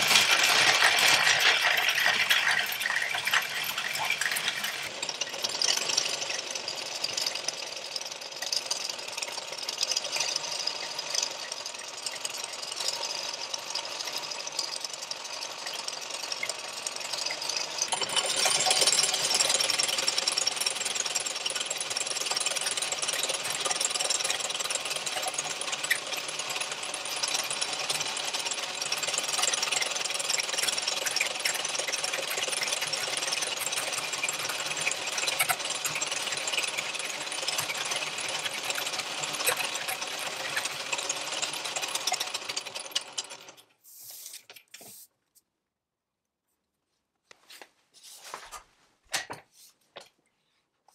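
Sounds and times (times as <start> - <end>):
lathe cutting brass with rattling chatter: 0.0 - 43.6.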